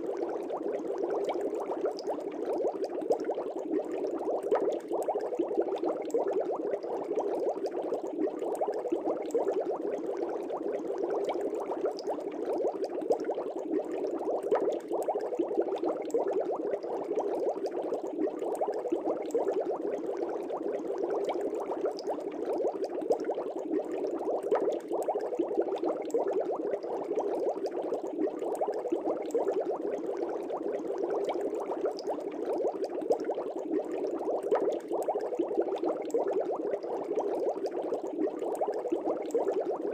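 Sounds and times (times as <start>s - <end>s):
air bubbling in fish tank: 0.0s - 39.9s.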